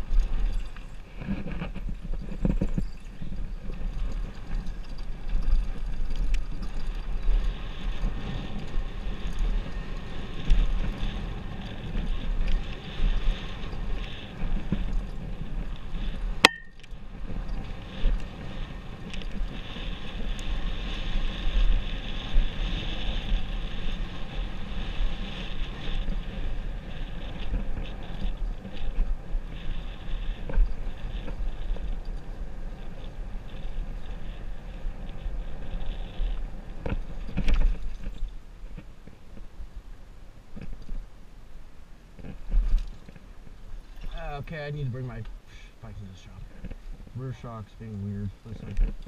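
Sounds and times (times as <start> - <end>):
bike tyres rumbling on dirt: 0.0 - 49.0
wind buffeting microphone: 0.0 - 49.0.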